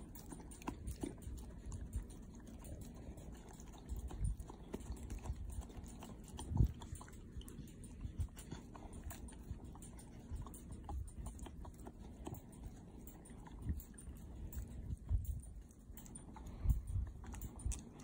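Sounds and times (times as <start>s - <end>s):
dog licking with wet mouth smacks: 0.0s - 18.0s.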